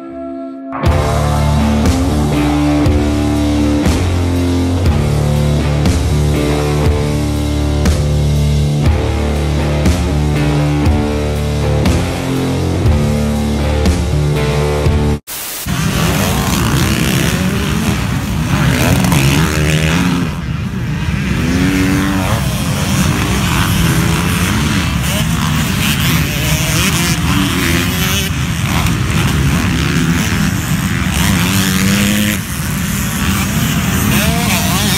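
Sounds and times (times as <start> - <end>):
dirt bike engines revving: 0.8 - 34.9.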